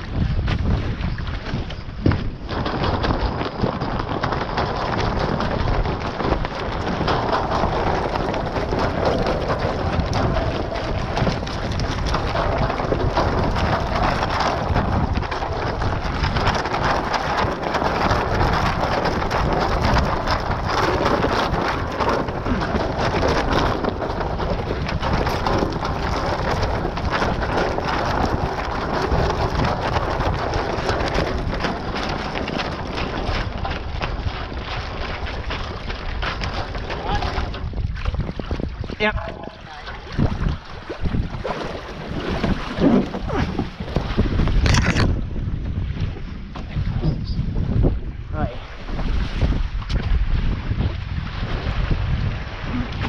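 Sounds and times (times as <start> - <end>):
water rushing along hulls: 0.0 - 53.0
wind buffeting microphone: 0.0 - 53.0.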